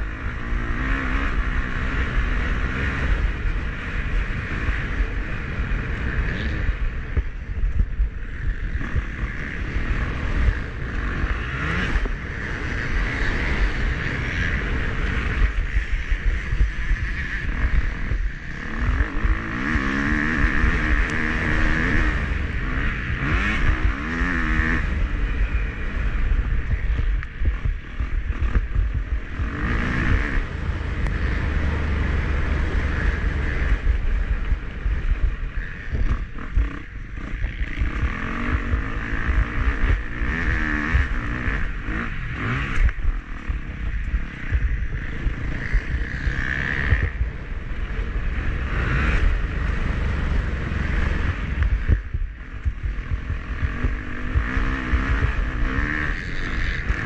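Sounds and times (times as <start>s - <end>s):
heavy low rumble: 0.0s - 57.0s
motocross bike engine revving: 0.0s - 57.0s.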